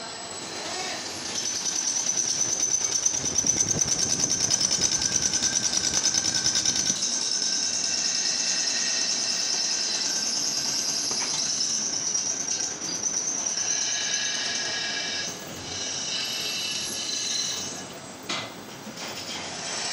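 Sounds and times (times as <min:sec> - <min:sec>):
metal lathe whining and clattering: 0:00.0 - 0:19.9.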